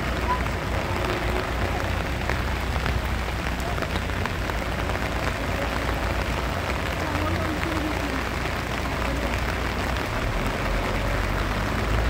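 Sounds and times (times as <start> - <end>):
rain on wet pavement: 0.0 - 12.0.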